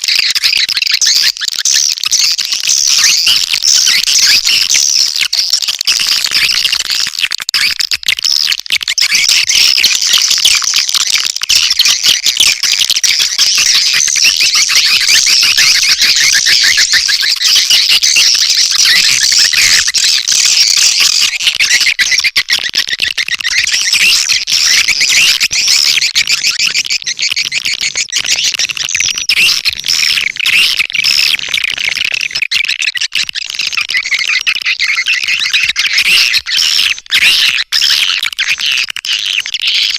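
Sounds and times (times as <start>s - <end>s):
swiftlets chirping and twittering: 0.0s - 39.9s.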